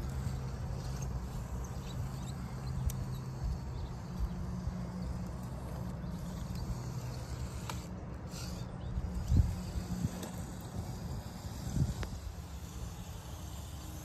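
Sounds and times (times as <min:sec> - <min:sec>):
electric motor and drivetrain running: 0:00.0 - 0:14.0
tires clicking on stone: 0:00.0 - 0:14.0.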